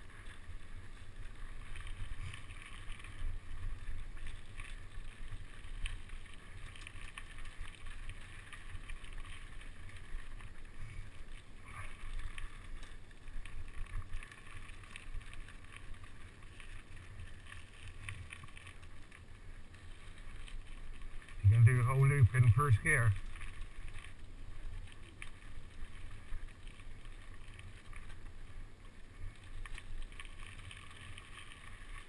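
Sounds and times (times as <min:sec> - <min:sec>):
bike tyres crunching on dirt: 0:00.0 - 0:32.0.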